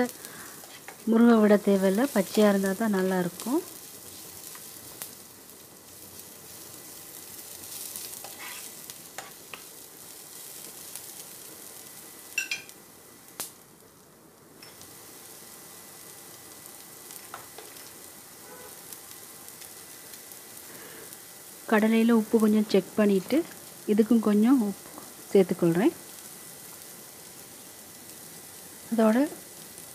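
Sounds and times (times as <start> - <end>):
onions sizzling in oil: 0.0 - 29.9.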